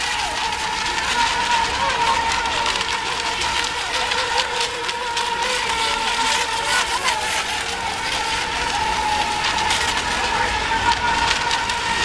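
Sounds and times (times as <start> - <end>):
boat motors whining: 0.0 - 12.0.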